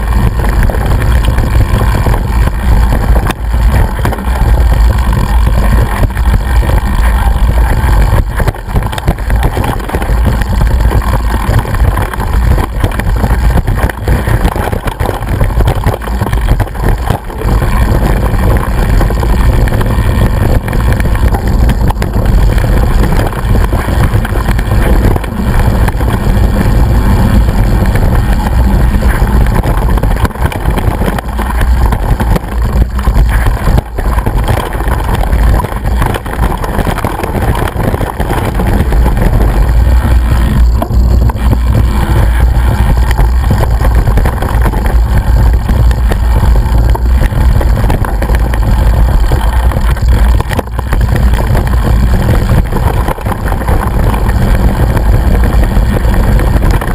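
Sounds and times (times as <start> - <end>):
camera rattling: 0.0 - 56.9
wind rumble on camera: 0.0 - 56.9.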